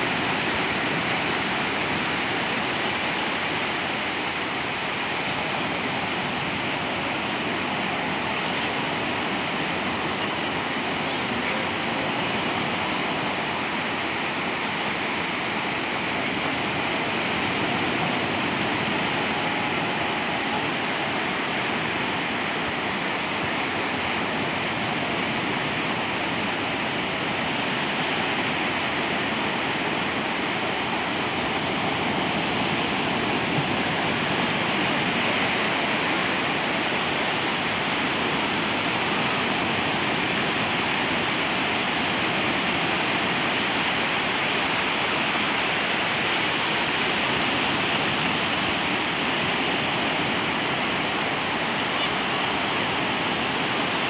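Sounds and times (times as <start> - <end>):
sea waves washing ashore: 0.0 - 54.0.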